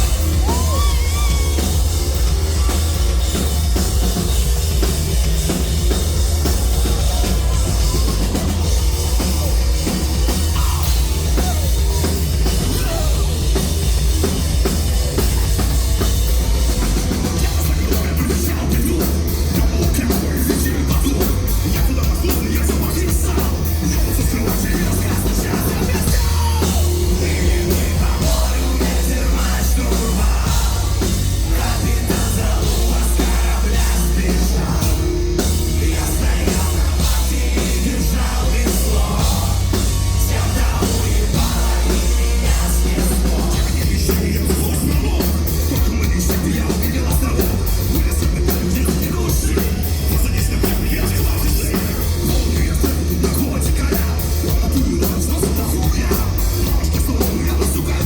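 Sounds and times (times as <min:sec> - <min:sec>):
bass guitar: 0:00.0 - 0:58.0
drum kit: 0:00.0 - 0:58.0.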